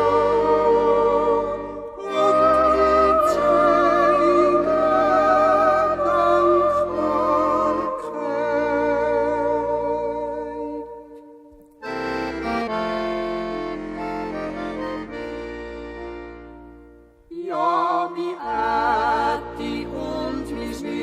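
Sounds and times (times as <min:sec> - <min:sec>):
accordion playing folk chords: 0:00.0 - 0:11.2, 0:11.8 - 0:21.0.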